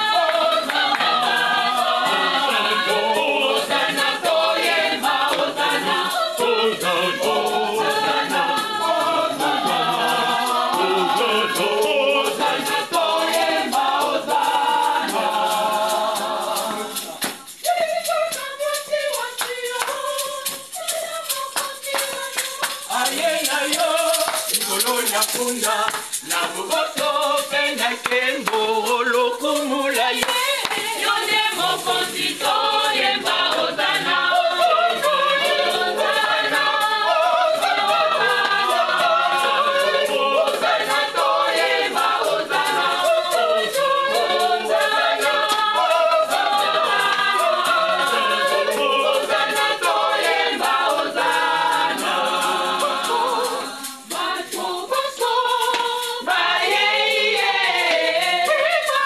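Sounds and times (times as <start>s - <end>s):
choir singing a hymn: 0.0s - 59.0s
shaker rhythm: 0.0s - 59.0s.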